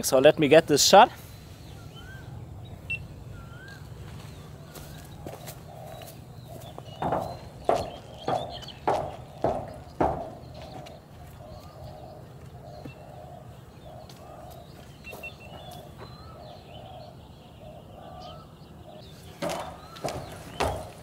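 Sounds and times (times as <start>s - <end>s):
bird chirps: 1.2s - 21.0s
bird low call: 1.2s - 21.0s.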